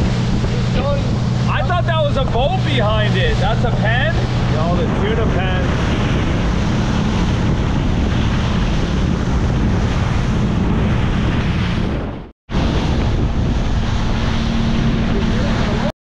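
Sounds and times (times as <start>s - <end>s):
motorboat engine drone: 0.0s - 15.9s
water rushing along hull: 0.0s - 15.9s
wind buffeting microphone: 0.0s - 15.9s.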